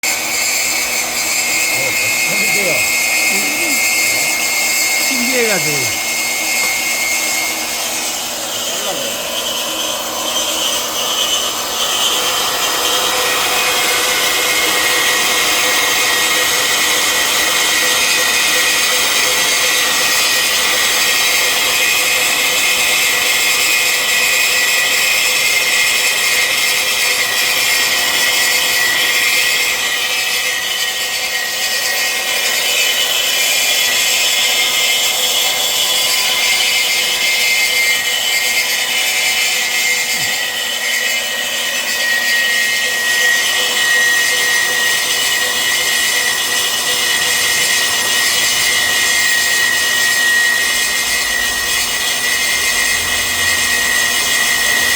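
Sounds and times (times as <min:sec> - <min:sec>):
band saw cutting steel pipe: 0:00.0 - 0:54.9.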